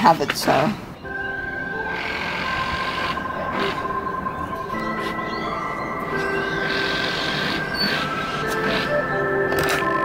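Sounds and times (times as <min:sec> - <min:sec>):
background music with held chords: 0:01.0 - 0:10.0.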